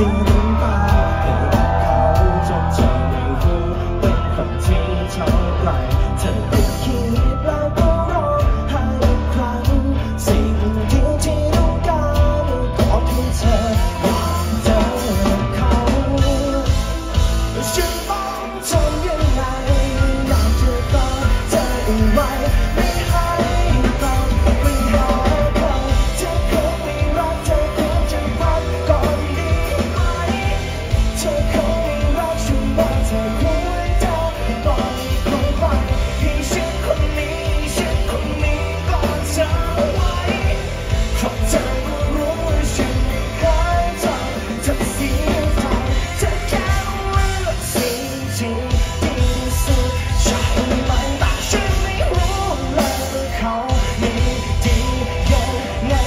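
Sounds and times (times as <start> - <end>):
man singing lead vocal: 0.0 - 56.0
rock band playing live: 0.0 - 56.0.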